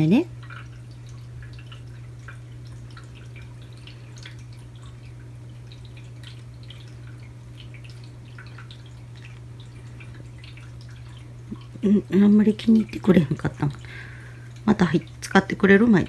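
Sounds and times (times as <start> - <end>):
small ticks and drips: 0.0 - 16.0.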